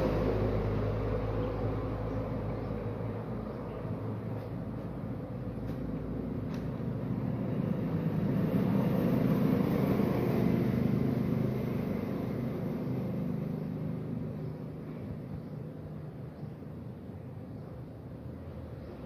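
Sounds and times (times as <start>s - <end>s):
vehicle engine hum passing: 0.0s - 19.0s.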